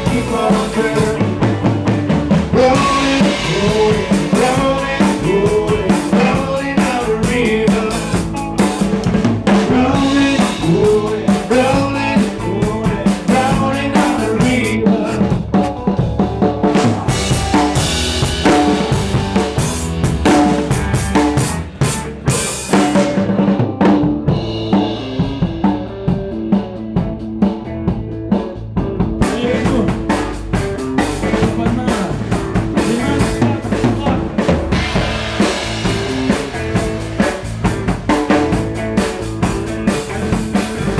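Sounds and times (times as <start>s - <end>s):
drum kit: 0.0s - 40.9s
live band playing: 0.0s - 40.9s.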